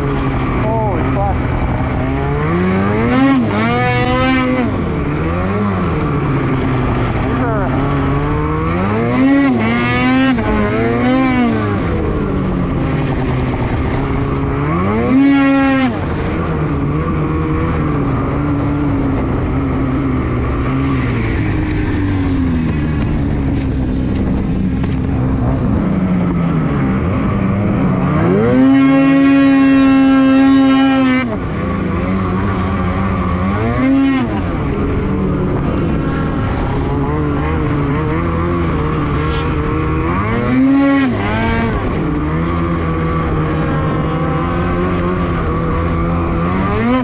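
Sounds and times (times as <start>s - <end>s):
snowmobile engine revving: 0.0s - 47.0s.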